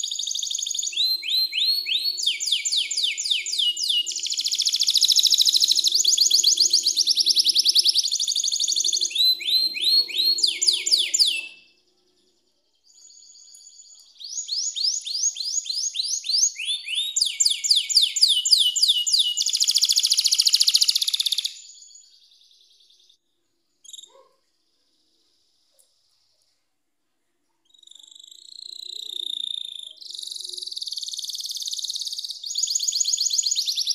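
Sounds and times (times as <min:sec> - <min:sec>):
canary singing: 0:00.0 - 0:23.1, 0:27.7 - 0:33.9.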